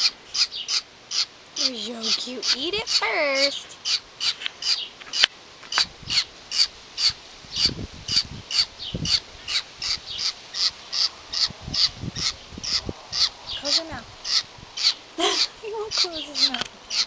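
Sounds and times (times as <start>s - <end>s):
baby bird begging calls: 0.0s - 17.0s.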